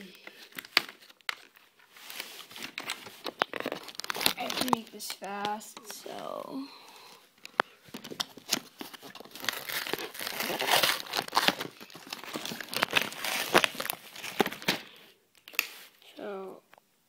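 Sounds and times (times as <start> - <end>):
packaging crinkling and tearing: 0.2 - 6.0, 7.4 - 15.8.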